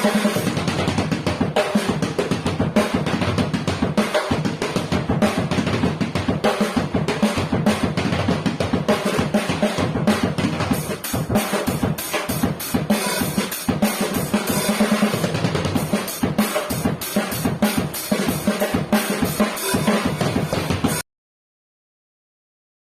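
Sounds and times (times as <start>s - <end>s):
drum kit groove: 0.0s - 21.0s.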